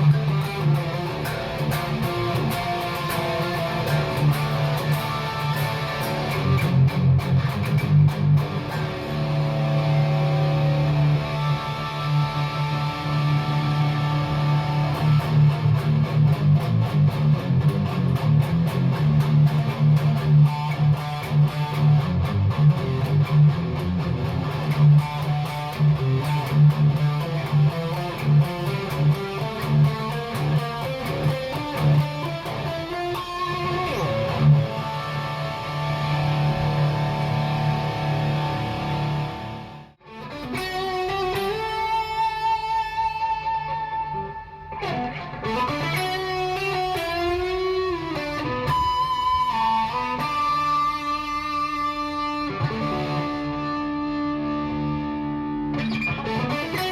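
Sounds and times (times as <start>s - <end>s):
electric guitar playing: 0.0s - 56.9s.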